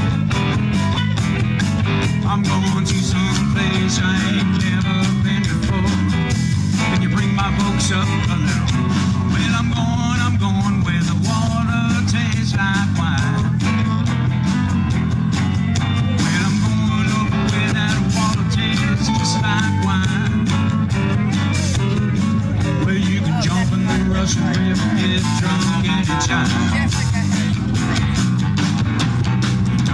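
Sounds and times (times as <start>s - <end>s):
bass guitar: 0.0s - 29.9s
drums keeping a beat: 0.0s - 29.9s
electric guitar lead lines: 0.0s - 29.9s.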